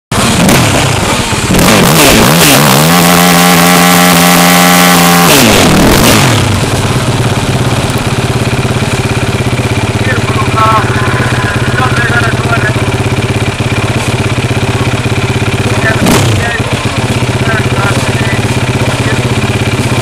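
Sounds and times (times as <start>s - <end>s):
quad engine revving and idling: 0.1s - 20.0s.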